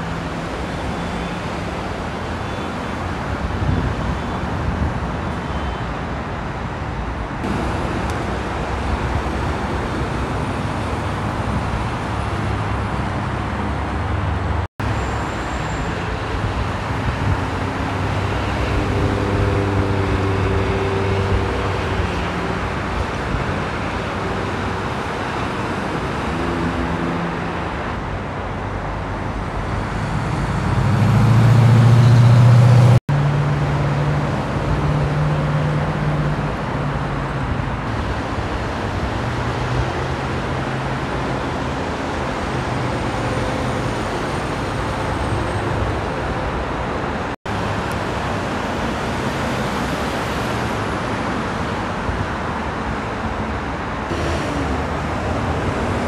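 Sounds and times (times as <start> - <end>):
heavy freeway traffic: 0.0 - 56.0
truck engines droning: 0.0 - 56.0.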